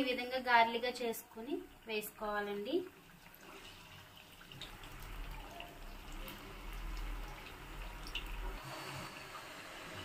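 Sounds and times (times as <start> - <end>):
fritters sizzling in hot oil: 0.1 - 10.0.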